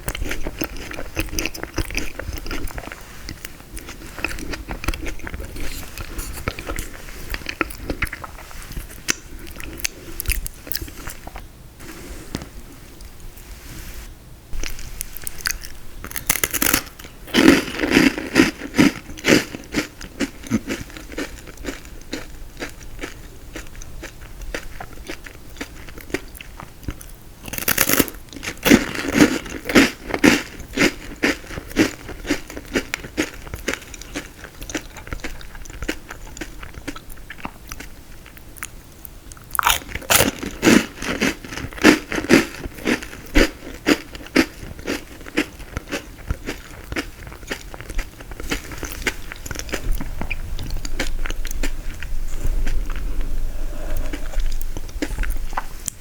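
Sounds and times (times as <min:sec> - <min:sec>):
crackly crunching of frozen dessert: 0:00.0 - 0:11.5, 0:14.6 - 0:56.0
quiet chewing: 0:00.0 - 0:13.4, 0:14.5 - 0:56.0.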